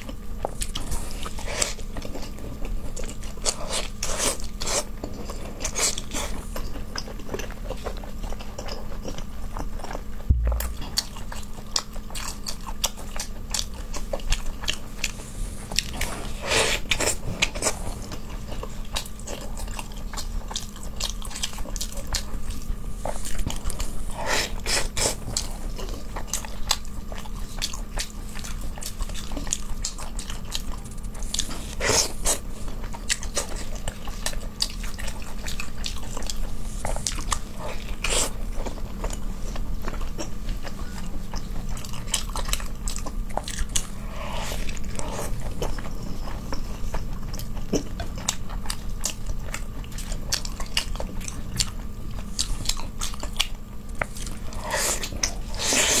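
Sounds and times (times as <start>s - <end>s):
chewing and biting meat: 0.0s - 56.0s
steady low hum: 0.0s - 56.0s.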